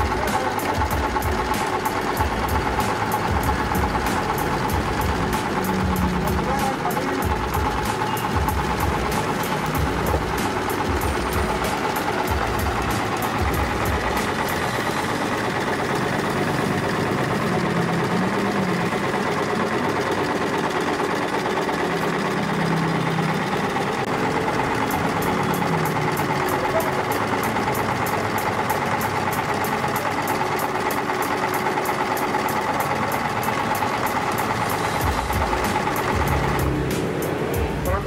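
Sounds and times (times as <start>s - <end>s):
sewing machine running: 0.0s - 38.0s.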